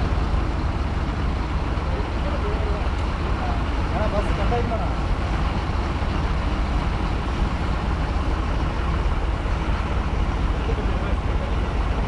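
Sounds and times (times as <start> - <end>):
diesel engines rumbling: 0.0 - 12.0.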